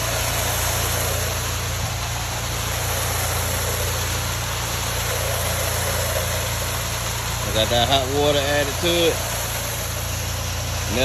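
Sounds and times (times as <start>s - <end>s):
high-pressure water spray hissing: 0.0s - 11.0s
pressure washer engine drone: 0.0s - 11.0s.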